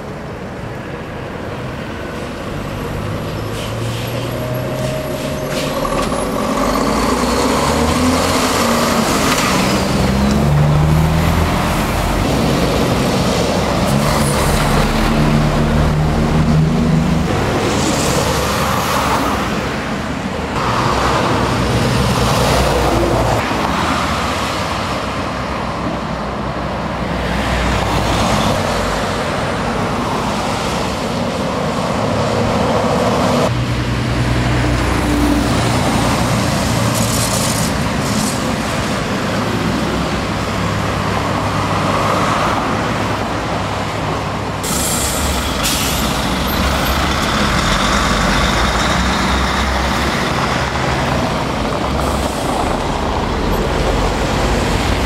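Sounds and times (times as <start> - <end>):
lorries and cars driving past: 0.0 - 55.0.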